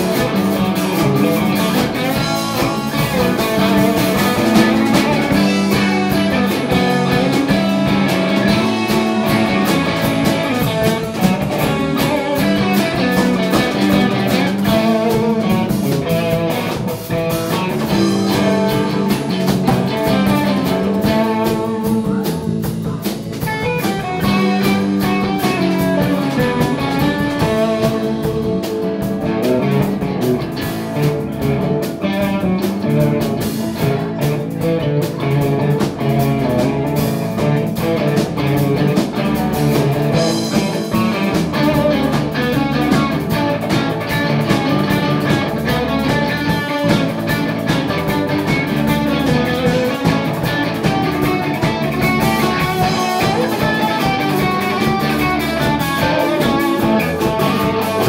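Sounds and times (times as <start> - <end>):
live band with guitars: 0.0 - 58.0.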